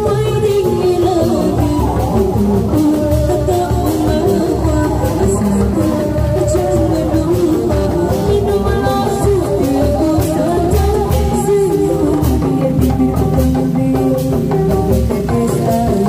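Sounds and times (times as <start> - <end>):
amplified music with drum beat: 0.0 - 16.0
woman singing through microphone: 0.0 - 16.0.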